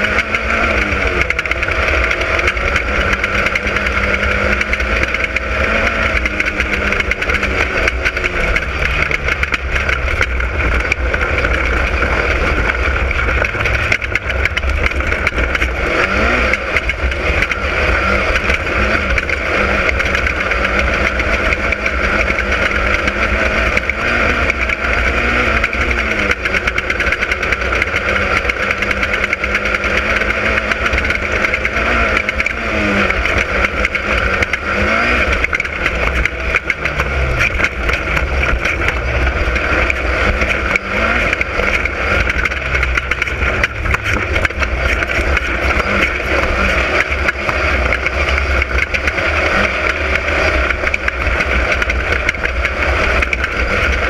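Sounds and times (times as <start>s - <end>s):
race car engine: 0.0s - 54.0s
rattling and road noise: 0.0s - 54.0s.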